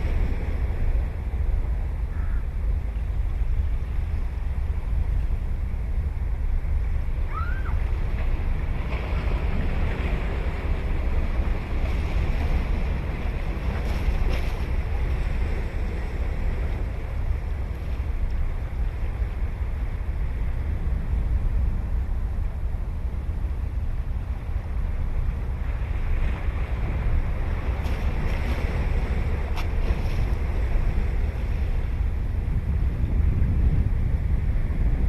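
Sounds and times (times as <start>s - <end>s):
ocean waves breaking: 0.0s - 35.0s
wind rumble on microphone: 0.0s - 35.0s.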